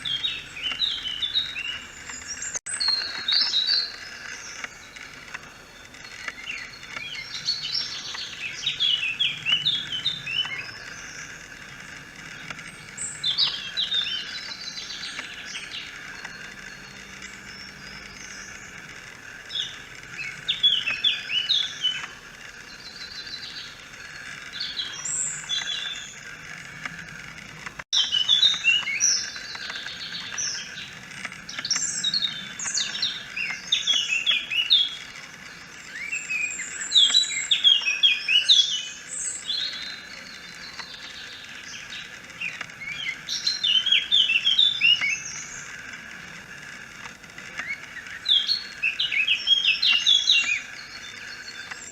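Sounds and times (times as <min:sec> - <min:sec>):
distant birdsong: 0:00.0 - 0:51.9
songbirds chirping: 0:00.0 - 0:51.9.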